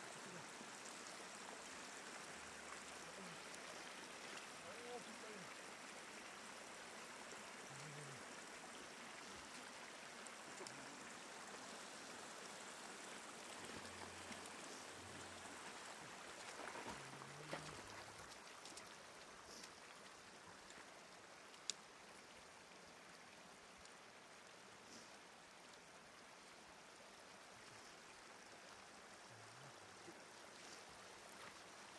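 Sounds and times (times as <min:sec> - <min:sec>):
water trickling over ground: 0:00.0 - 0:31.9.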